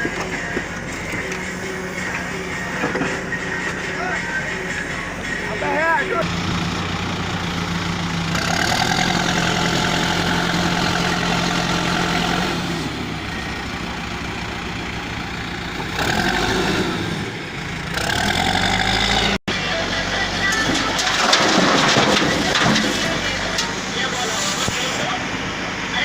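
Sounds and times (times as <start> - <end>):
heavy machine engine humming: 0.0 - 26.0.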